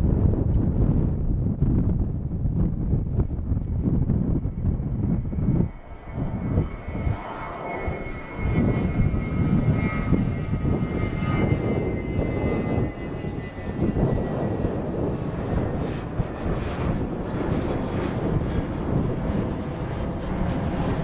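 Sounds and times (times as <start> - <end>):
high jet engine whine: 0.0 - 21.0
jet engine roar: 0.0 - 21.0.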